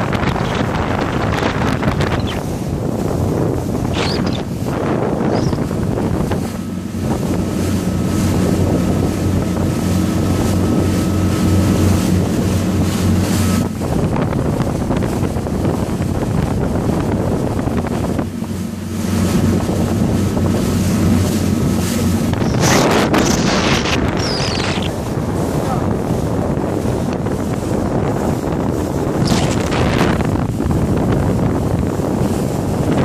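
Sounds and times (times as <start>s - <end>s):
motorboat engine running: 0.0s - 33.0s
water rushing: 0.0s - 33.0s
wind buffeting microphone: 0.0s - 33.0s.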